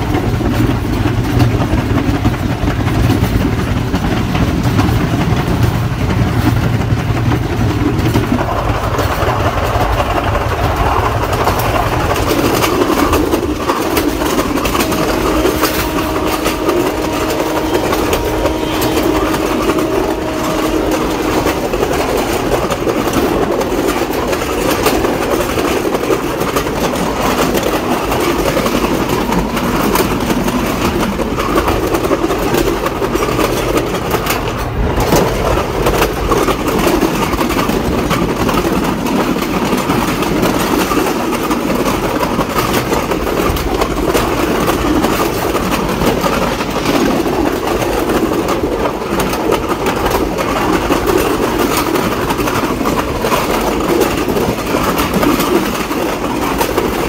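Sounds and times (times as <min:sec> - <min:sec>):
diesel train rumble: 0:00.0 - 0:57.0
wheels clattering over rails: 0:00.0 - 0:57.0.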